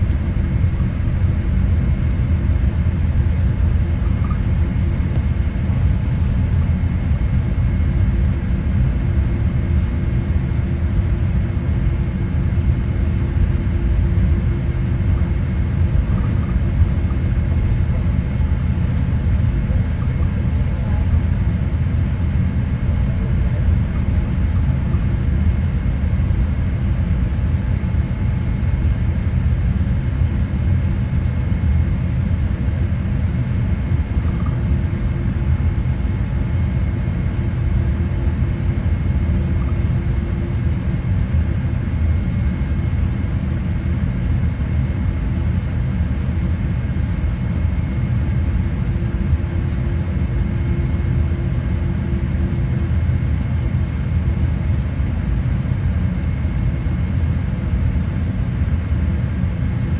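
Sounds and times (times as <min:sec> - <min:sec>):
aircraft cabin low rumble: 0:00.0 - 0:59.9.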